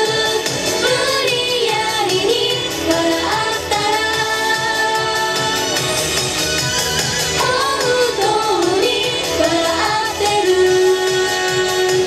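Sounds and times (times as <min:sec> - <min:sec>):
backing track with steady beat: 0:00.0 - 0:12.0
women singing pop song: 0:00.0 - 0:12.0.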